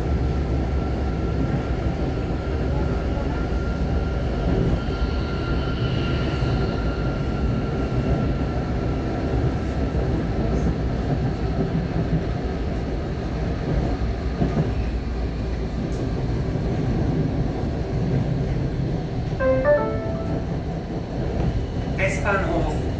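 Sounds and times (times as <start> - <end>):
tram rolling noise: 0.0 - 22.9.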